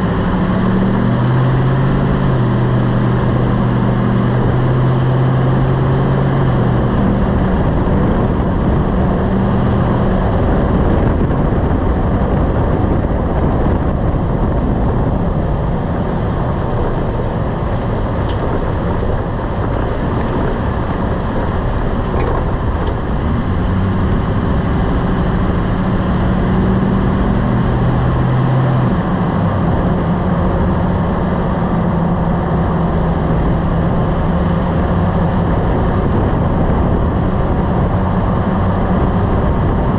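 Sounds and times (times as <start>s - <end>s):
engine hum: 0.0s - 39.9s
road tyre and wind noise: 0.0s - 39.9s.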